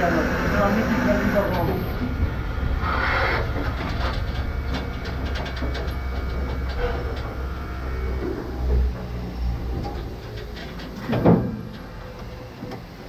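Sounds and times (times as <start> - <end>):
wheels clicking on track: 0.0 - 12.9
train rumbling on rails: 0.0 - 13.0.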